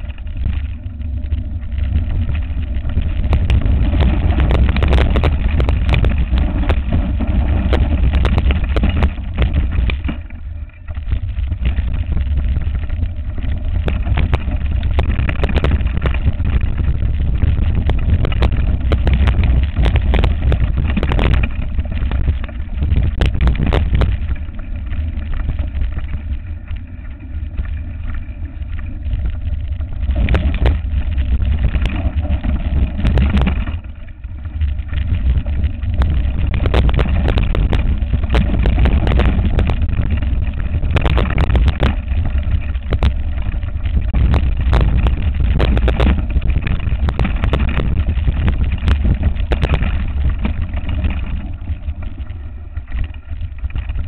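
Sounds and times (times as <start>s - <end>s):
bike knocks and rattles on stones: 0.0s - 54.0s
wind buffeting microphone: 0.0s - 54.0s.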